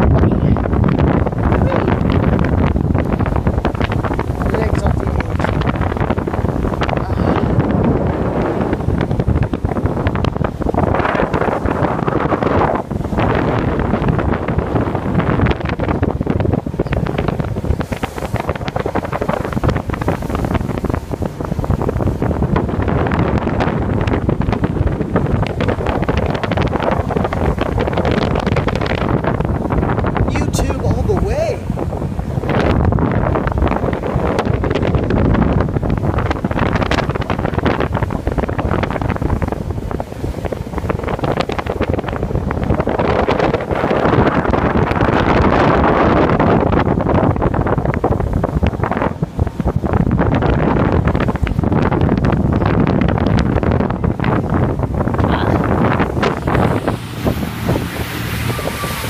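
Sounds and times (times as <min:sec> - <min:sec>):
boat running: 0:00.0 - 0:59.0
water noise: 0:00.0 - 0:59.0
wind buffeting microphone: 0:00.0 - 0:59.0.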